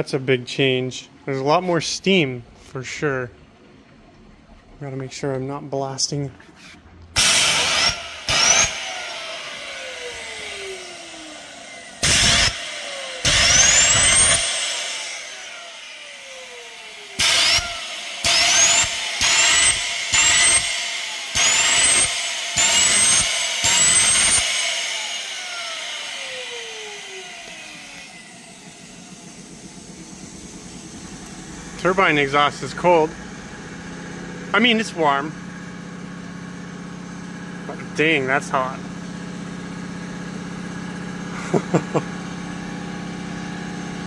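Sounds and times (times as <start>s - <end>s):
turbine rotor whine: 7.2s - 44.0s.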